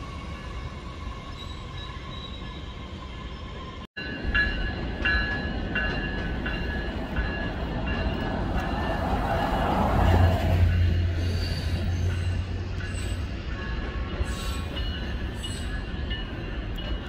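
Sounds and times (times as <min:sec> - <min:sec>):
electric train rumbling: 0:00.0 - 0:17.0
wheels squealing on rails: 0:00.0 - 0:17.0.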